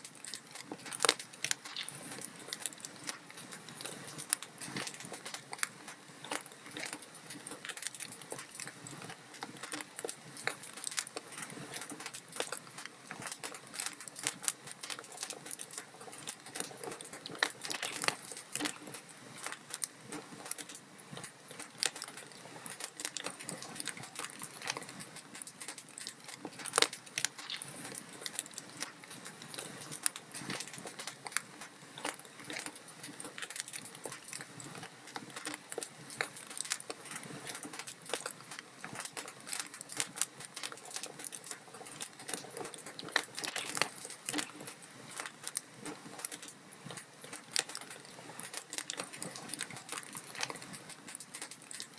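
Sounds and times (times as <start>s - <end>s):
log fire crackling: 0.0s - 51.9s.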